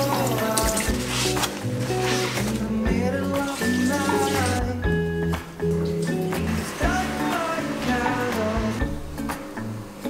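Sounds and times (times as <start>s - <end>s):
song with singing bass and drums: 0.0s - 9.4s.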